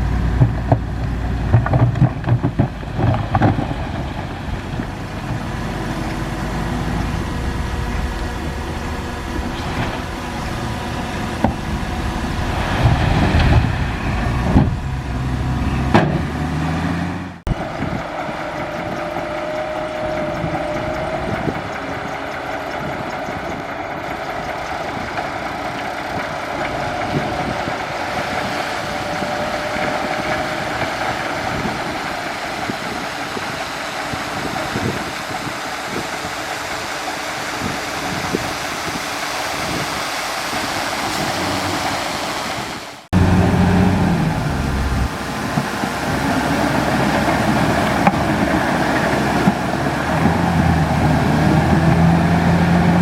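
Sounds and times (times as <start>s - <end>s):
bulldozer diesel engine rumbling: 0.0s - 53.0s.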